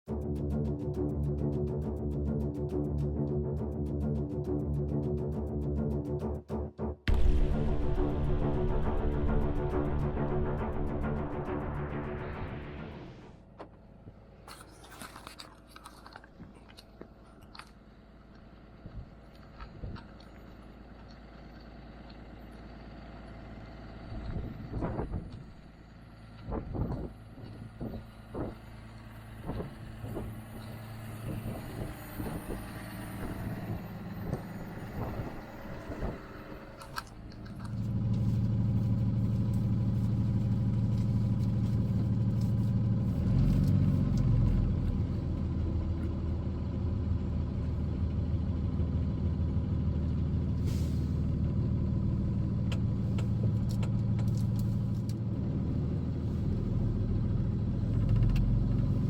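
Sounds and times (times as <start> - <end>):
truck engine drone: 0.0 - 59.0
road noise: 7.1 - 59.0.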